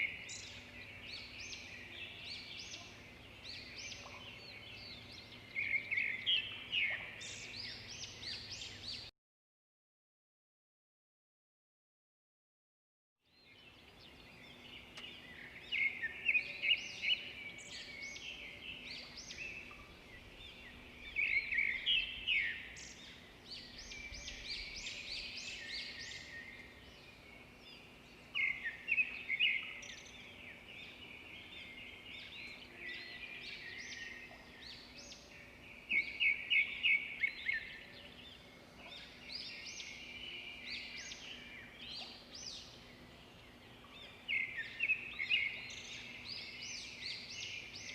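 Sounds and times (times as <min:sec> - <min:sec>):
birds singing and chirping: 0:00.0 - 0:09.1, 0:13.3 - 0:47.9.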